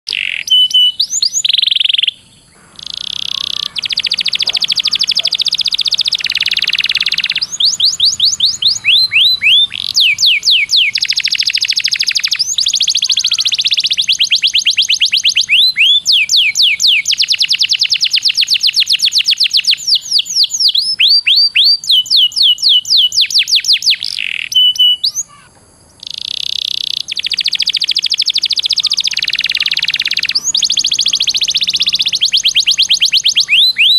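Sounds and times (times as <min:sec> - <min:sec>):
canary singing: 0:00.1 - 0:33.9.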